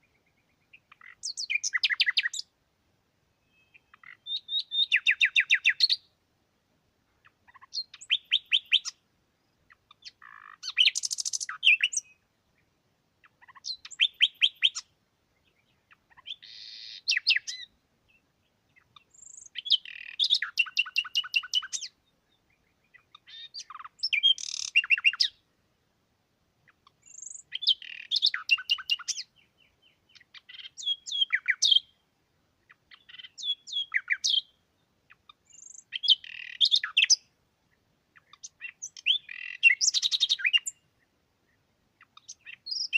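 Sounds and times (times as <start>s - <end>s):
songbird singing trilled notes: 0.0s - 2.5s, 3.4s - 6.1s, 7.2s - 25.4s, 26.6s - 32.0s, 32.6s - 42.9s.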